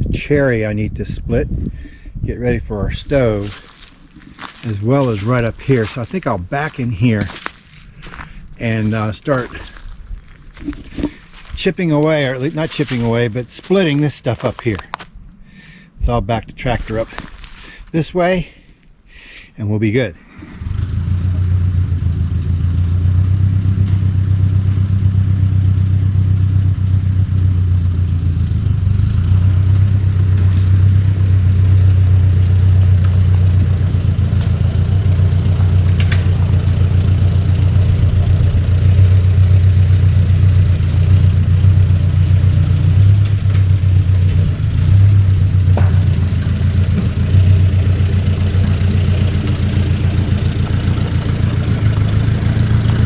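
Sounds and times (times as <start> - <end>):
tractor engine running: 1.3 - 53.0.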